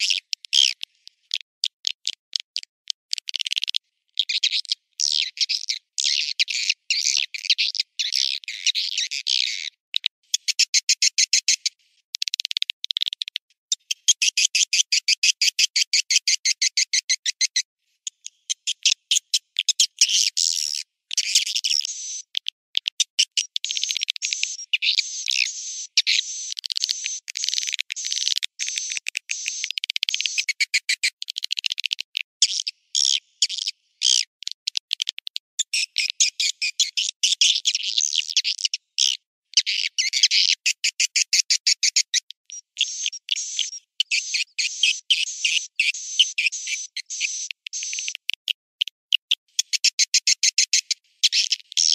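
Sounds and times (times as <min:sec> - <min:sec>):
high-pitched twittering bird chirps: 0:00.0 - 0:00.9, 0:04.2 - 0:11.7, 0:13.7 - 0:31.7, 0:35.6 - 0:51.9.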